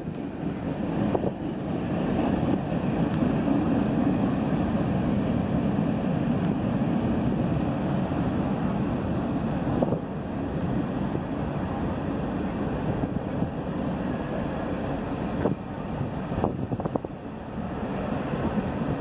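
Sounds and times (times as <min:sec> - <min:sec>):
distant freight train rumble: 0:00.0 - 0:19.0.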